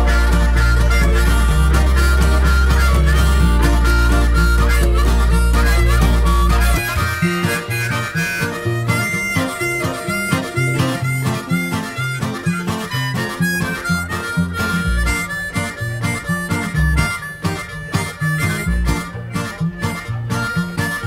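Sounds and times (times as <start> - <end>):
pop music with harmonica and beat: 0.0 - 21.0.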